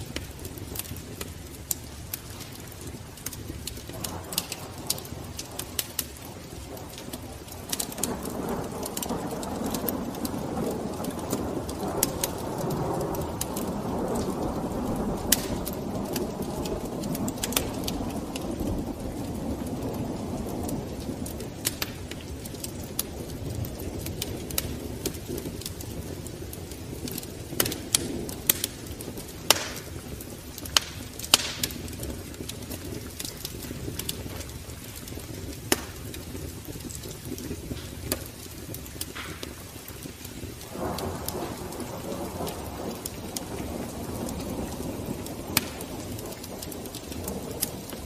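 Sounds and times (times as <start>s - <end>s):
low rushing hiss of fire: 0.0s - 48.0s
wood fire crackling and popping: 0.0s - 48.0s.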